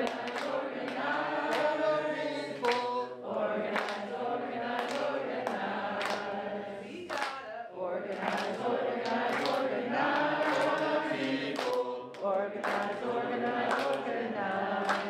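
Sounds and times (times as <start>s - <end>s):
group singing in unison: 0.0s - 15.0s.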